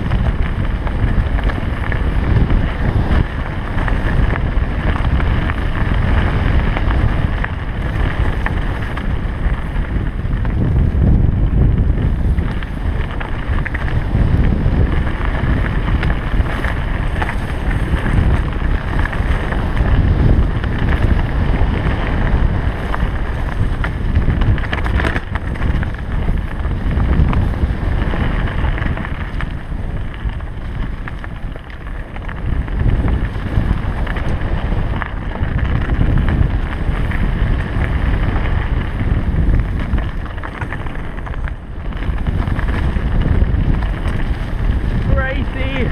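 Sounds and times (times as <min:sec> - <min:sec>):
bike clicks and knocks: 0:00.0 - 0:45.3
wind buffeting microphone: 0:00.0 - 0:45.9.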